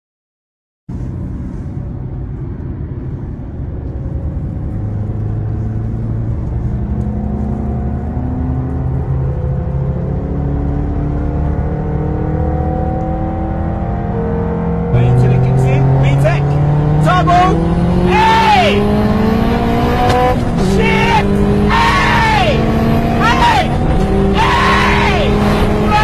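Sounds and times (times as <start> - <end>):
car engine accelerating: 0.9 - 26.0.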